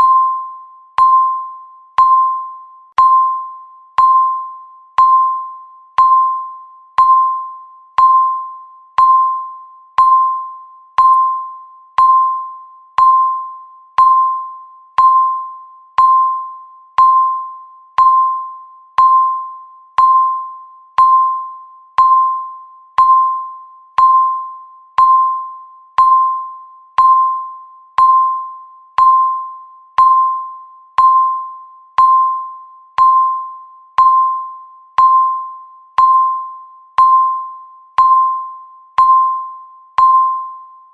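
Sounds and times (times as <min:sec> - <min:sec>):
countdown timer beeping: 0:00.0 - 0:40.9.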